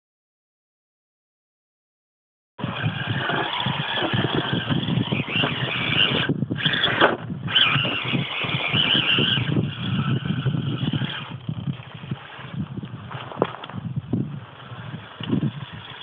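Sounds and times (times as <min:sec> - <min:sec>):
electric motor and gears whining: 0:02.6 - 0:16.0.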